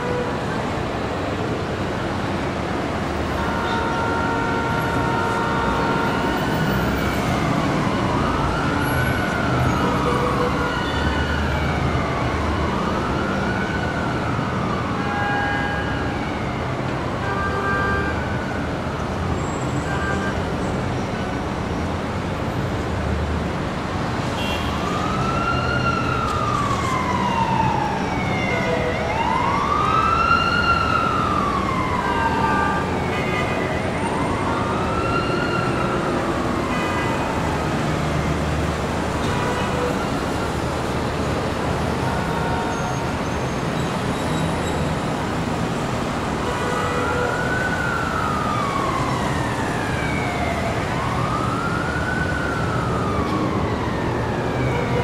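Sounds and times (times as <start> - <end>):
emergency siren wailing: 0.0 - 21.6, 23.6 - 55.0
street traffic rumble: 0.0 - 55.0.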